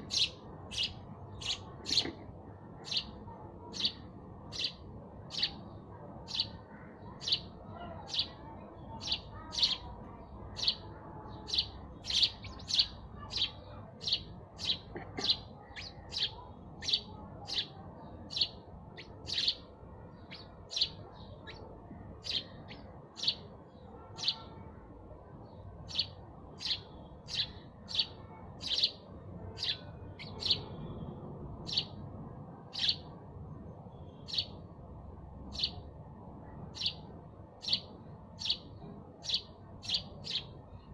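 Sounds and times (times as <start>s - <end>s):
sparrow chirping: 0.0s - 31.0s, 31.6s - 40.9s.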